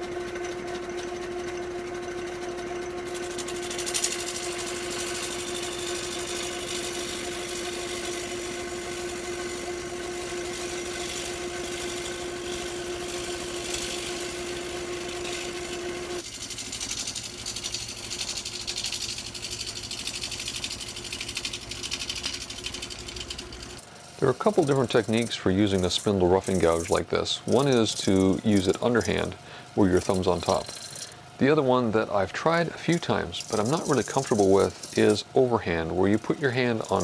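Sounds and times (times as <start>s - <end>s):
steady hum: 0.0s - 37.0s
gouge chattering on wood lathe: 0.1s - 37.0s.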